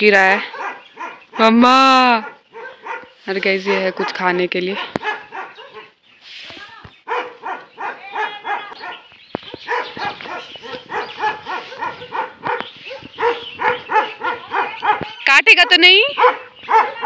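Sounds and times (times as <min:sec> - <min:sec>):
dog barking: 0:00.4 - 0:06.0, 0:07.0 - 0:17.0.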